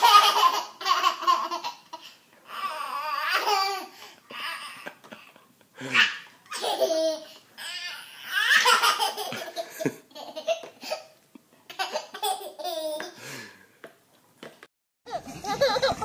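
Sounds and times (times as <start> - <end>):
toddler laughing: 0.0 - 11.1, 11.7 - 13.2, 15.1 - 16.0.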